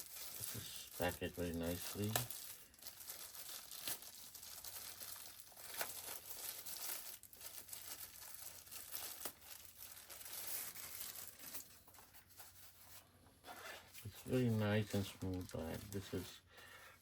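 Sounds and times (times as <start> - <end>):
packaging crinkling and rustling: 0.0 - 16.3.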